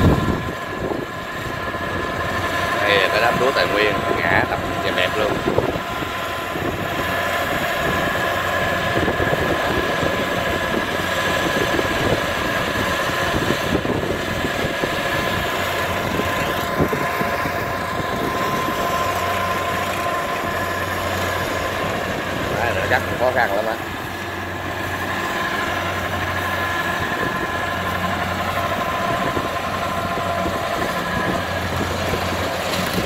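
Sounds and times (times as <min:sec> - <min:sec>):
diesel engine running: 0:00.0 - 0:33.0
steady high whine: 0:00.0 - 0:33.0.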